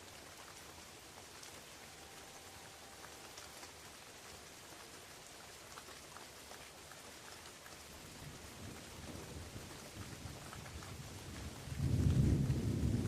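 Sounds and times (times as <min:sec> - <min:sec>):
light rain on leaves: 0:00.0 - 0:13.0.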